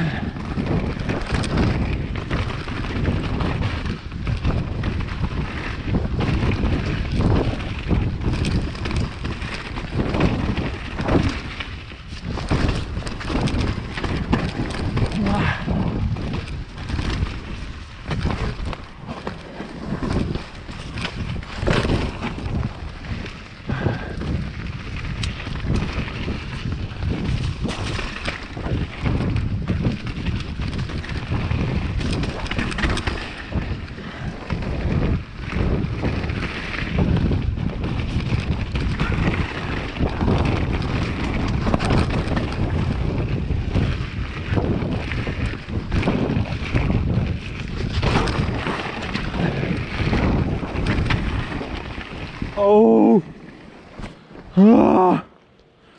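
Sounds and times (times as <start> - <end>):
bike knocks and rattles: 0.0 - 54.6
tyres rumbling on dirt: 0.0 - 55.3
wind buffeting microphone: 0.0 - 55.9.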